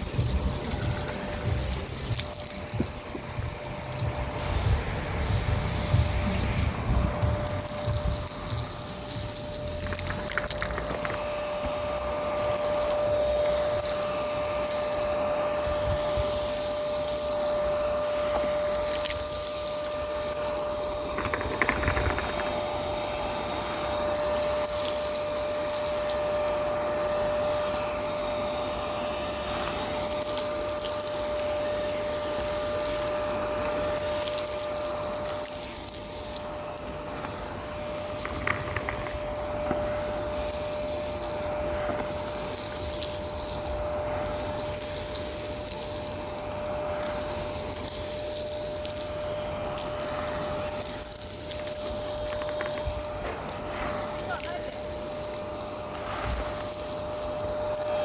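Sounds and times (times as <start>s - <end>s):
grit crackling in vacuum: 0.0s - 58.0s
vacuum cleaner whining: 0.0s - 58.0s.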